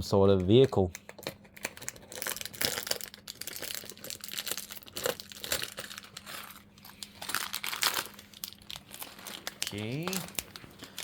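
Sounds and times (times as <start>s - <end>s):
plastic packaging crinkling: 0.4s - 11.0s.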